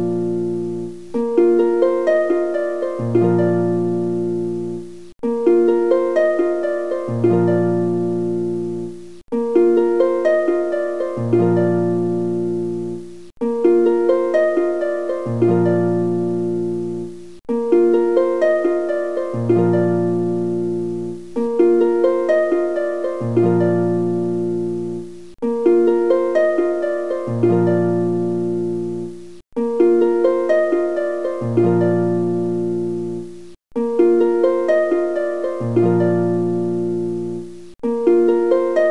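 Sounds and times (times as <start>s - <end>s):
looped plucked-string melody: 0.0s - 38.9s.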